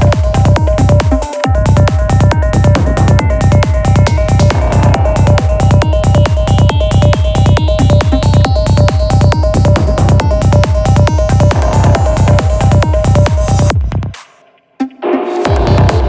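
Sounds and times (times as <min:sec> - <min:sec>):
trance music: 0:00.0 - 0:16.0.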